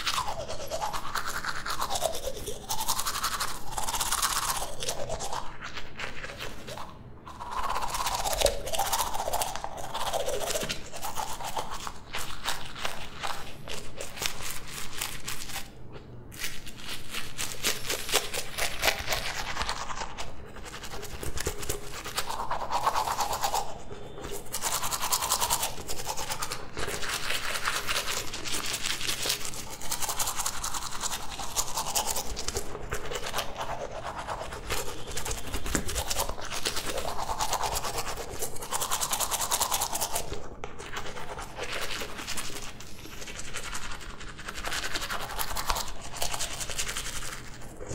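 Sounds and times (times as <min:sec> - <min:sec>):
toothbrush scrubbing teeth: 0:00.0 - 0:47.9.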